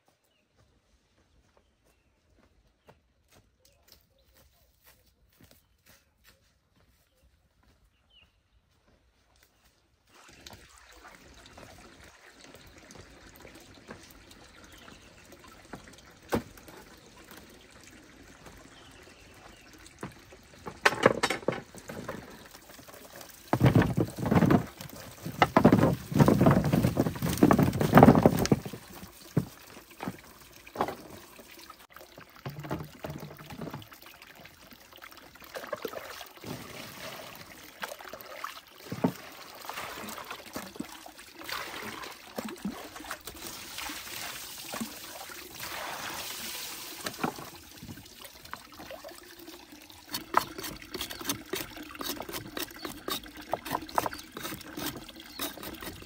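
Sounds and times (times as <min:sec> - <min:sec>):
water pouring and splashing: 0:10.0 - 0:56.0.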